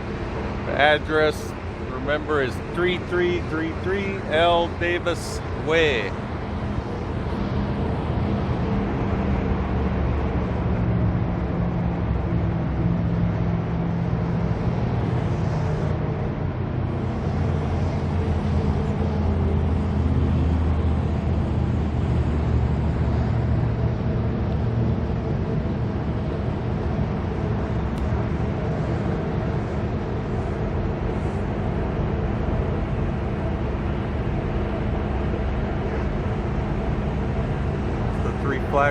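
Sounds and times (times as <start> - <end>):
deep engine drone: 0.0 - 38.9
passing traffic noise: 0.0 - 38.9.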